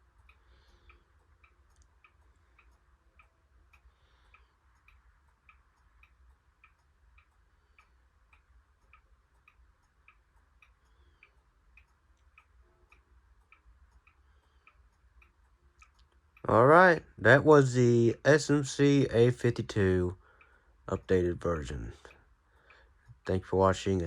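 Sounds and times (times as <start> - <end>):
ceiling fan ticking: 0.0 - 24.0
low steady fan hum: 0.0 - 24.0.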